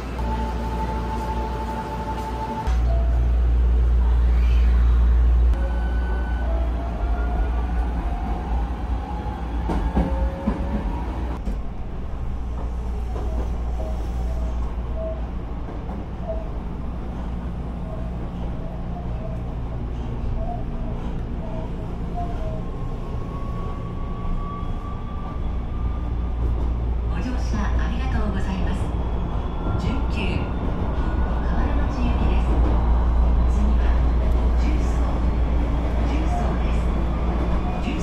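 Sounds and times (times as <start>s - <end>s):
electric train low rumble: 0.0s - 38.0s.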